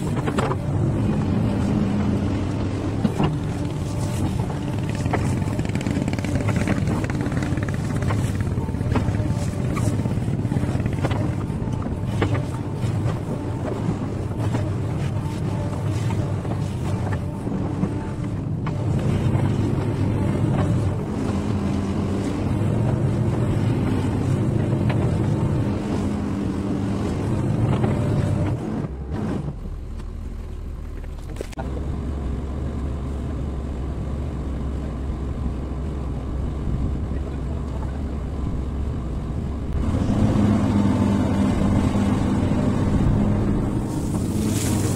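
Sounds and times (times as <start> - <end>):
excavator diesel engine droning: 0.0 - 44.9.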